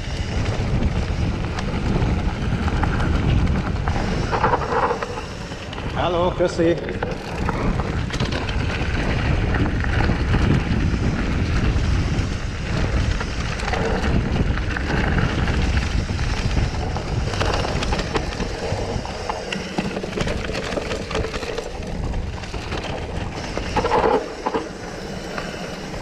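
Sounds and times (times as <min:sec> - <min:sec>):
bike rattling: 0:00.0 - 0:26.0
bike tyres rumbling over dirt: 0:00.0 - 0:26.0
wind buffeting microphone: 0:00.0 - 0:26.0.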